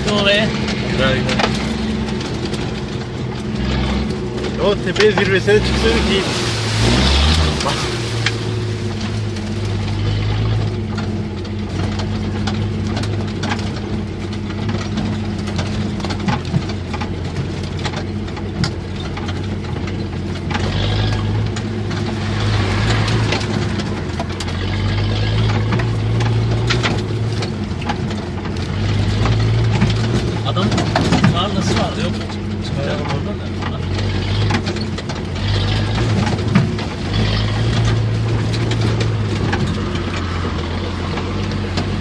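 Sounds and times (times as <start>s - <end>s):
car engine running steadily: 0.0s - 42.0s.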